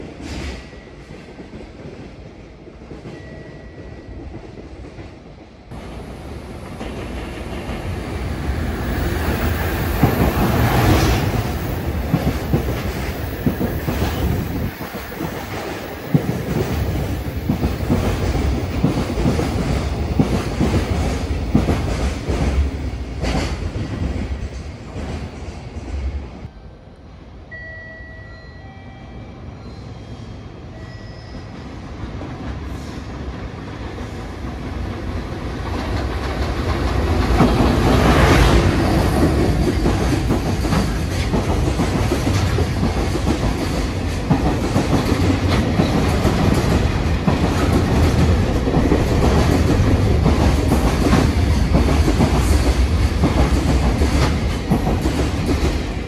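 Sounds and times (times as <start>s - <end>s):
freight train rumble: 0.0s - 27.6s, 29.2s - 56.0s.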